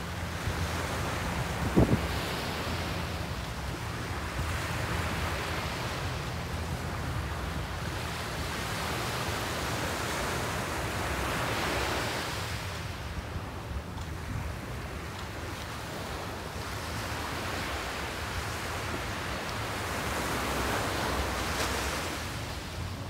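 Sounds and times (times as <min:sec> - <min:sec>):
small waves breaking on beach: 0:00.0 - 0:23.0.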